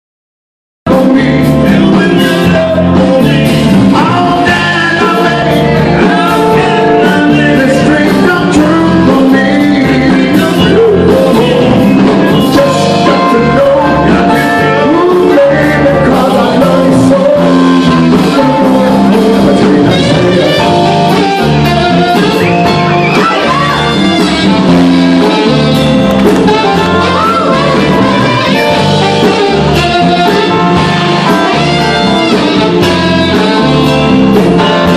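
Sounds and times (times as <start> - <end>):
live rock band with singing: 0.9 - 34.9.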